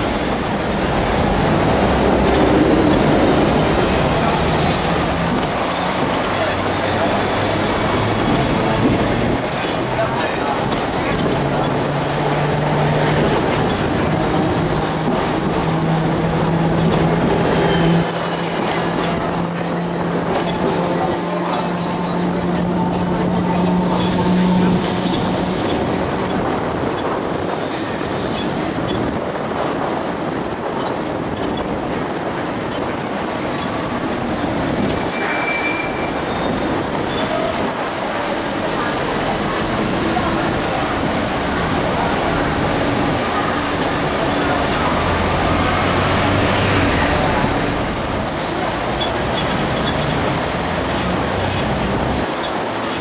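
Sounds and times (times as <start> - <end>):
tram wheels rumbling on track: 0.0 - 53.0
wind noise: 0.0 - 53.0.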